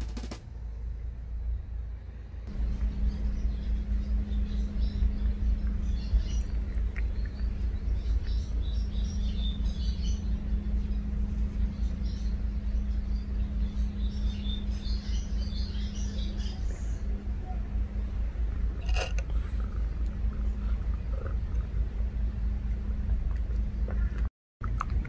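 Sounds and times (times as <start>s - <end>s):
low rumble and hum: 0.0s - 25.0s
small birds chirping: 2.5s - 22.8s.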